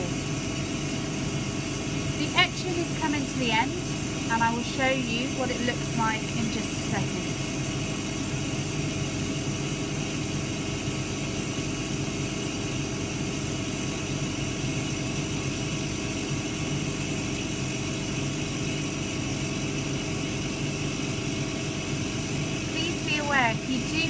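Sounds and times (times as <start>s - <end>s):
laser cutter humming: 0.0s - 24.0s.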